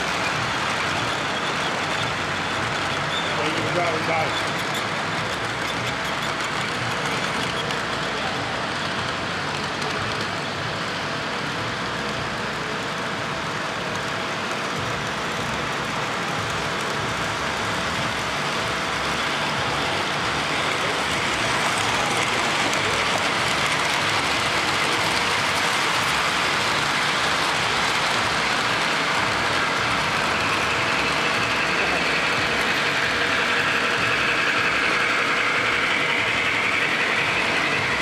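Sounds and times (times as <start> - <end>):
model train wheels rushing on track: 0.0 - 38.0.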